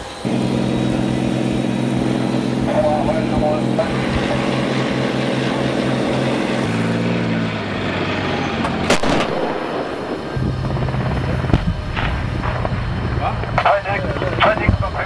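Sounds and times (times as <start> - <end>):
short sharp burst: 0.0 - 14.2
simulated engine hum: 0.0 - 15.0.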